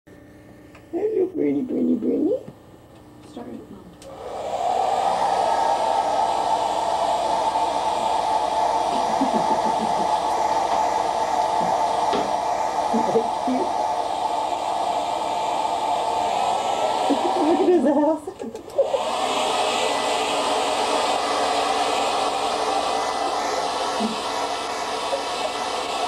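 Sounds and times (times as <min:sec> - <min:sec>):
blow dryer running: 0:04.0 - 0:26.0.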